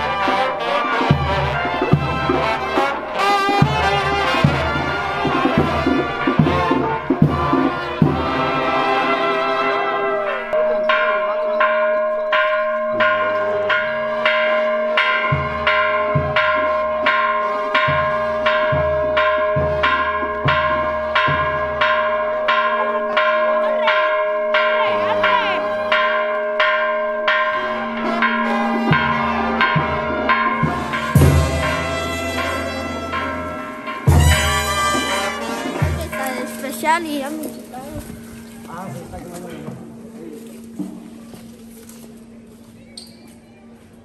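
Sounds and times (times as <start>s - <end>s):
church bell ringing: 0.0s - 42.7s.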